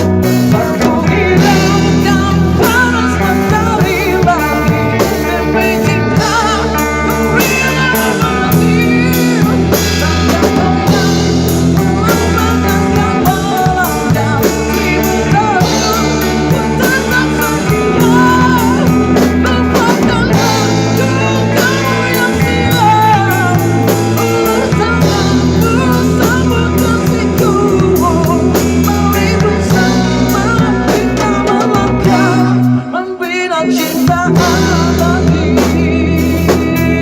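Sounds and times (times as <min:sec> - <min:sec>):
bending lead guitar melody: 0:00.0 - 0:37.0
rock band playing: 0:00.0 - 0:37.0.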